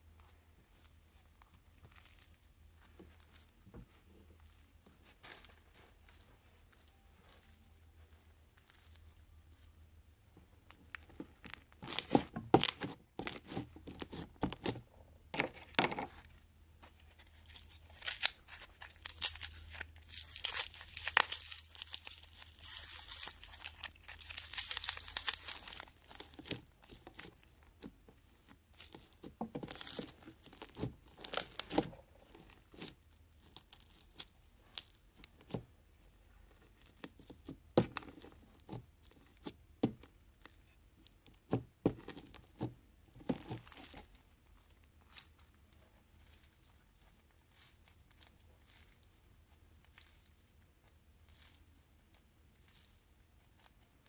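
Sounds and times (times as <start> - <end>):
crunchy slime crackling: 0.0 - 9.8, 10.6 - 54.0.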